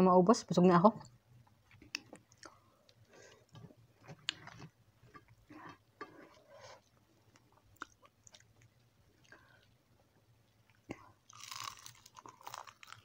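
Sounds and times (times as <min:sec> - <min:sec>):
chewing crispy food: 0:01.4 - 0:13.0.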